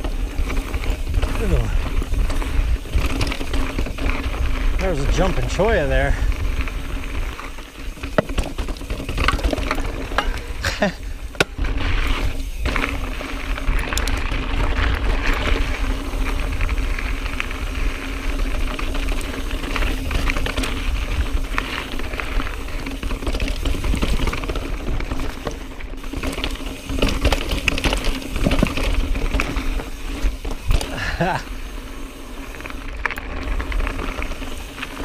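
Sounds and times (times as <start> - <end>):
bicycle tyres rolling: 0.0 - 35.0
bike clicking and rattling: 0.0 - 35.0.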